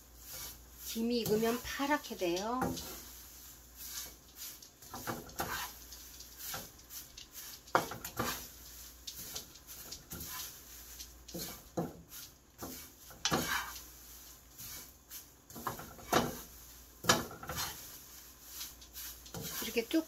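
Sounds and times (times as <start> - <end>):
wooden spoon scraping a pan: 0.0 - 20.0.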